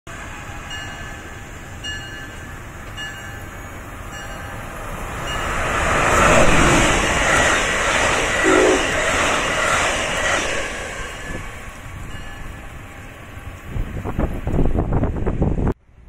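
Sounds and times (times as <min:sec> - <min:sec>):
train rumble approaching: 0:00.1 - 0:16.0.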